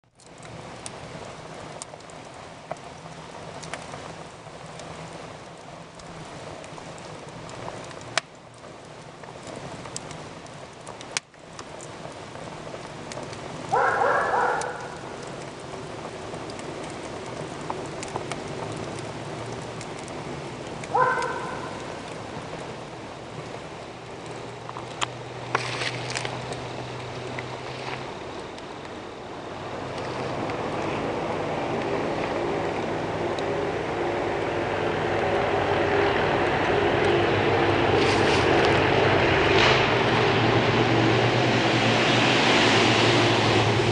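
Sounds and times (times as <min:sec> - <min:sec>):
campfire crackling: 0:00.0 - 0:43.9
fire popping: 0:00.0 - 0:43.9.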